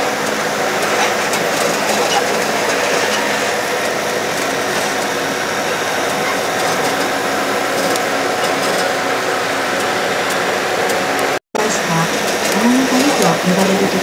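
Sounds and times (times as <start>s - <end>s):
train motor and wheels rumbling: 0.0s - 14.0s.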